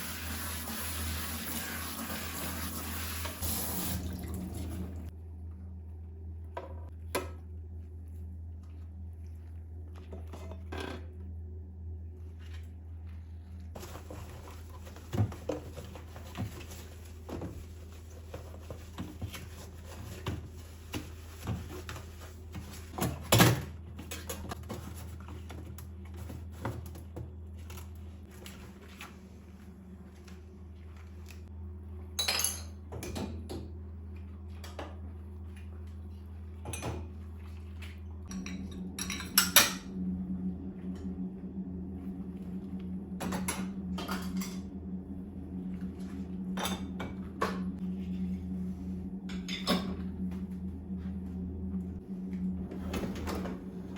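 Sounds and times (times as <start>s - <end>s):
steady low hum: 4.1s - 53.9s.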